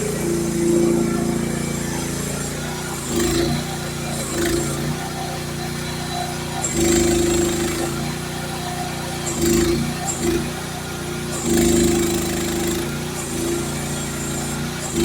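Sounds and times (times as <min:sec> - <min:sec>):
excavator engine running: 0:00.0 - 0:15.0
hydraulics working: 0:00.0 - 0:15.0.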